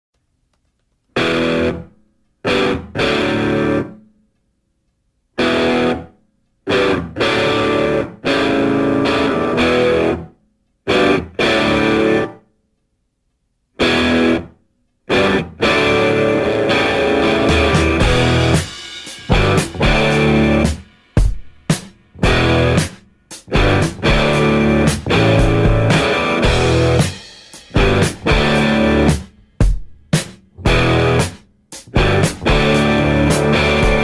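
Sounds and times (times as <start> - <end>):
distorted electric guitar chords: 1.2 - 4.0, 5.4 - 6.1, 6.7 - 10.3, 10.9 - 12.4, 13.8 - 14.5, 15.1 - 29.8, 30.6 - 34.0.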